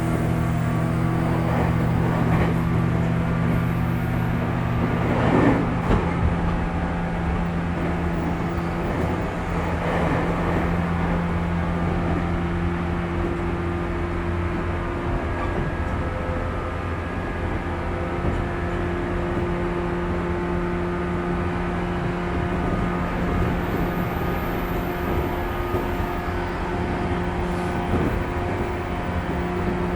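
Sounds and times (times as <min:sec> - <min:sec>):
train motor hum: 0:00.0 - 0:29.9
wheels rumbling on rails: 0:00.0 - 0:29.9.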